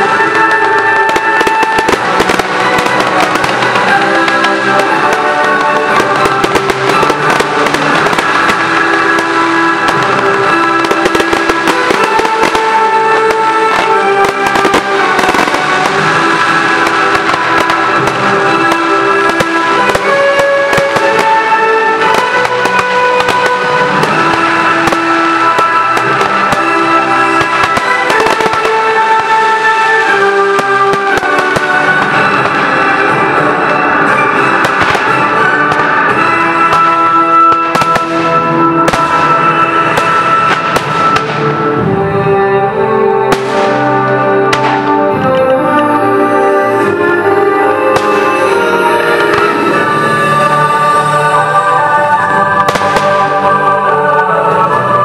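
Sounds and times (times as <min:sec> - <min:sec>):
fireworks bangs and crackles: 0:00.0 - 0:55.0
music with held notes: 0:00.0 - 0:55.0.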